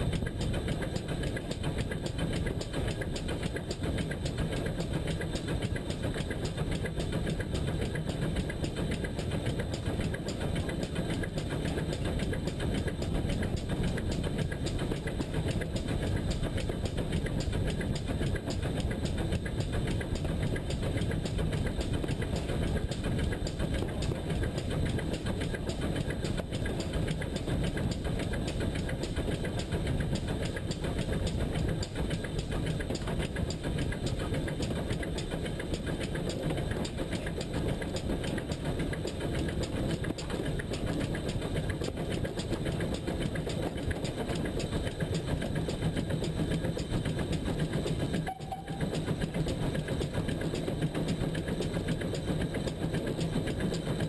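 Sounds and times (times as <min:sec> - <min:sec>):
steam locomotive wheels rumbling: 0:00.0 - 0:54.0.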